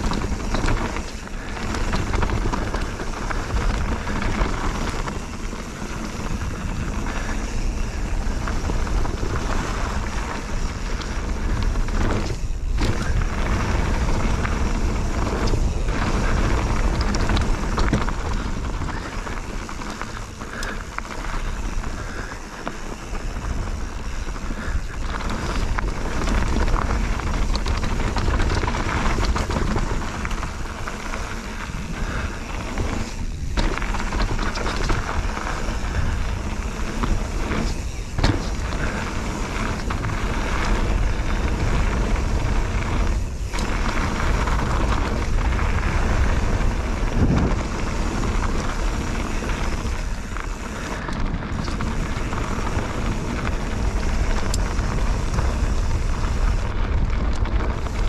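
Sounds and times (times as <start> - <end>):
bike rattling: 0.0 - 58.0
bike tyres rolling over dirt: 0.0 - 58.0
wind noise on microphone: 0.0 - 58.0.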